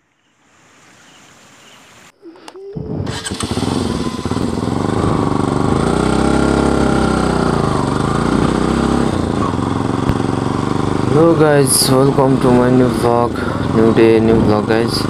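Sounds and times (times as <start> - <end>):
motorcycle engine starting and running: 2.7 - 15.0.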